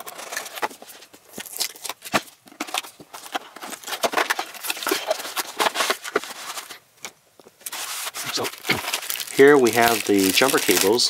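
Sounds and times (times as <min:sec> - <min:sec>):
cardboard box being opened: 0:00.0 - 0:06.8, 0:07.6 - 0:10.9
rustling: 0:00.0 - 0:11.0.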